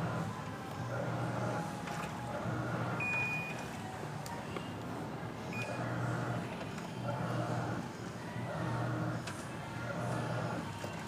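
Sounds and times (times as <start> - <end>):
washing machine motor hum: 0.0 - 3.6, 4.9 - 11.0.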